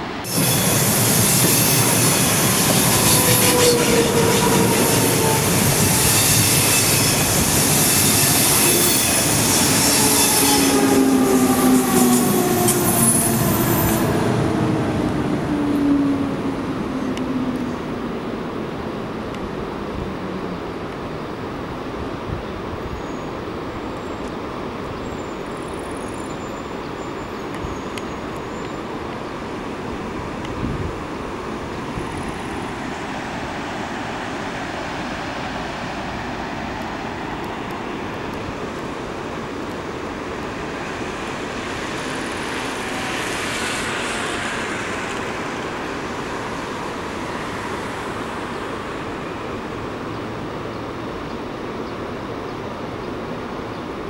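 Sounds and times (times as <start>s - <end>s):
train rumbling along tracks: 0.0s - 54.0s.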